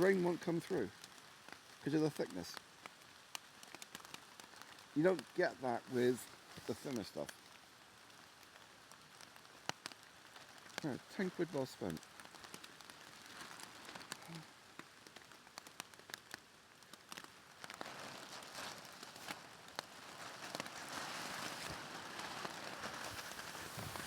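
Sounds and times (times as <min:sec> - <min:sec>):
rain on plastic sheeting: 0:00.0 - 0:24.0.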